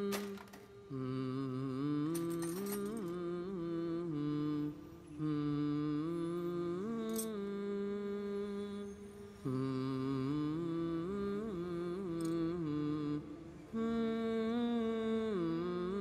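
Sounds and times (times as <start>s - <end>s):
hummed melody: 0.0s - 16.0s.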